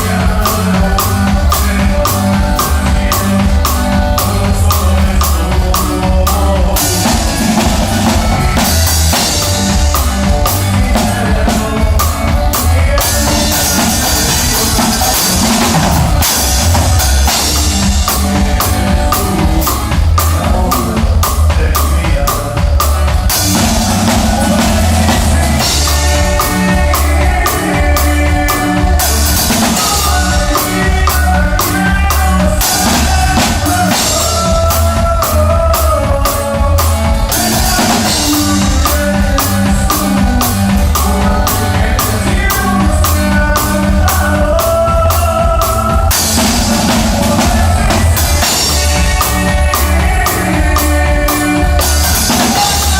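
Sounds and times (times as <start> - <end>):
drum kit steady beat: 0.0 - 52.9
live band playing: 0.0 - 52.9.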